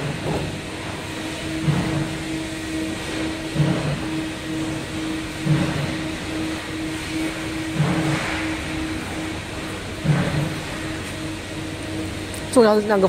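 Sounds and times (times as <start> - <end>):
fryer mechanical hum: 0.0 - 13.0
low pulse: 0.0 - 13.0.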